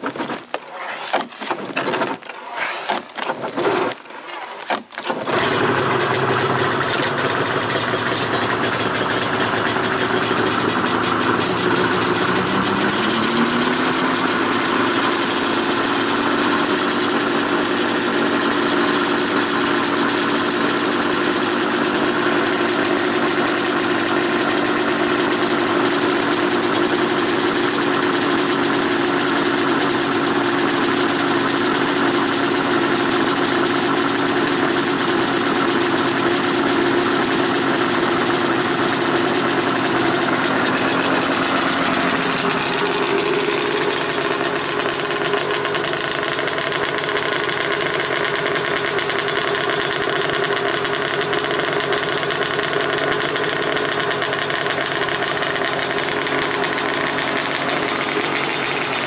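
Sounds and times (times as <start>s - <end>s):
snowmobile engine idling: 5.1s - 59.0s.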